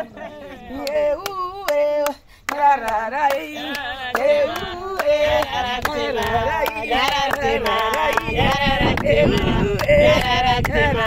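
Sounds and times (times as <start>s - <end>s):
women singing together: 0.0s - 11.0s
hand clapping: 0.7s - 11.0s.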